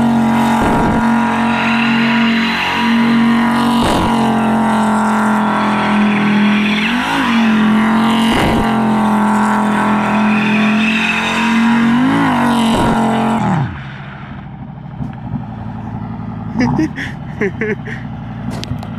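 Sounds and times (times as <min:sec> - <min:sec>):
car engine at high revs: 0:00.0 - 0:18.9.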